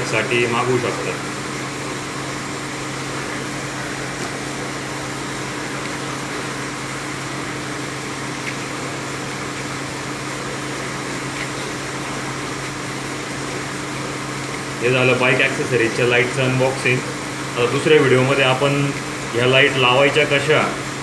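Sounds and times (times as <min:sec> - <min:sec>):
low hum with hiss: 0:00.0 - 0:21.0.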